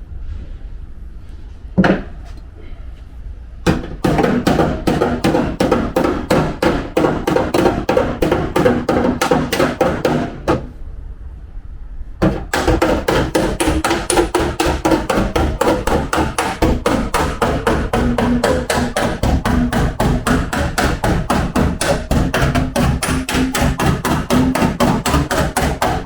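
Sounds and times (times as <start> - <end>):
hammer striking steel panel: 3.7 - 10.8, 12.2 - 26.0.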